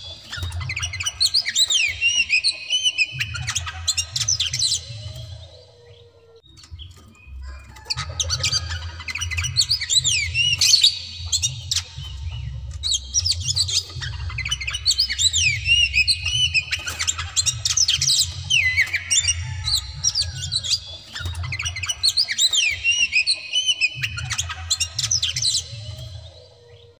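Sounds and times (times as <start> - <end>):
bird singing whistles and chatters: 0.0 - 27.0.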